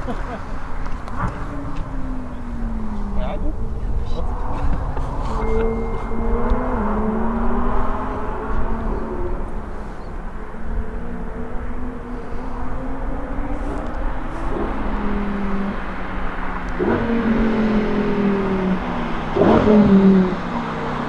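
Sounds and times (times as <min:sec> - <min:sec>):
sports car engine revving: 0:00.0 - 0:21.0.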